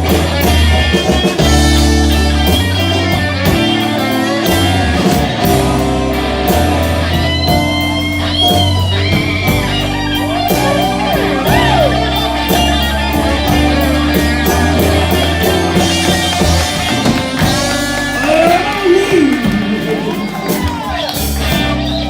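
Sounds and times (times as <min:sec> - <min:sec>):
bass and drums: 0:00.0 - 0:22.0
electric guitar lead: 0:00.0 - 0:22.0.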